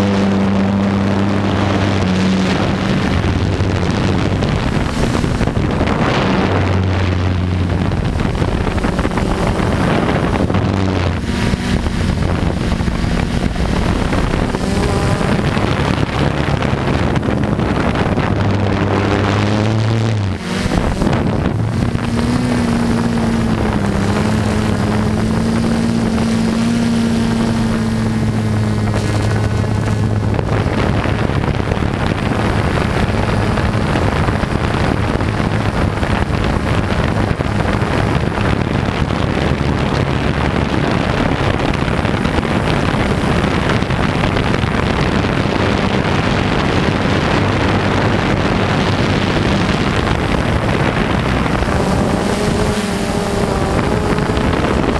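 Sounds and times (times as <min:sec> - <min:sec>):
quadcopter motors humming: 0:00.0 - 0:54.9
wind buffeting microphone: 0:00.0 - 0:54.9.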